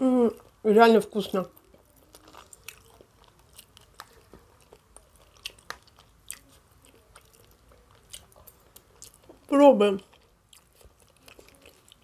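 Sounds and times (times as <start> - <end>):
person chewing food: 0.2 - 12.0.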